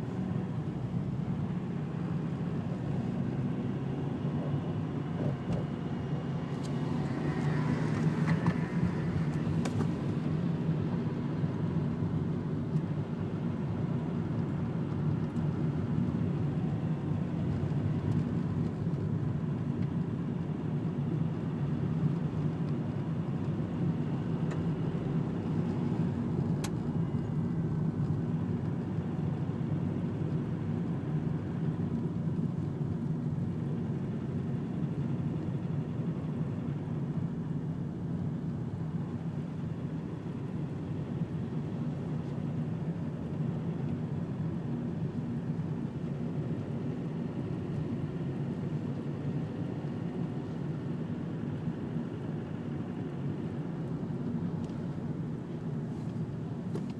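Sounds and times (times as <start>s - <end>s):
car engine and tyre rumble: 0.0s - 56.9s.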